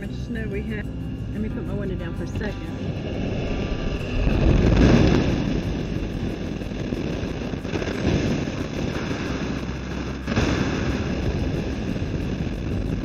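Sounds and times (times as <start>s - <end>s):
wind and road noise rushing: 0.8s - 13.0s.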